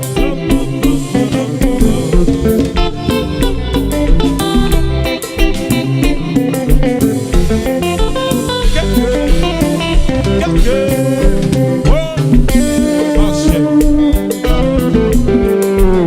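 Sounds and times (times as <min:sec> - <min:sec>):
bass: 0:00.0 - 0:16.0
drum kit beat: 0:00.0 - 0:16.0
electric guitar lines: 0:00.0 - 0:16.0.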